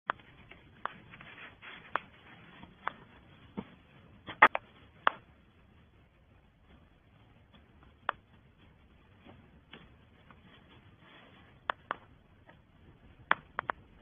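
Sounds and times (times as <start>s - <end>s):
faint background noise: 0.1s - 14.0s.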